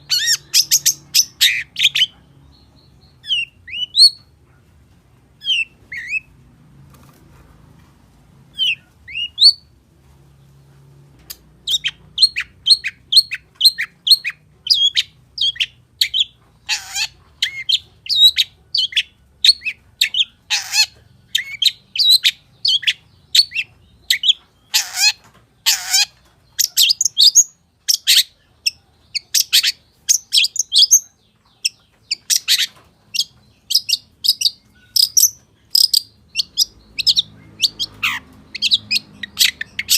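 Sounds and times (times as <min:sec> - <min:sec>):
bird rapid chirps: 0:00.0 - 0:04.3, 0:11.6 - 0:39.9.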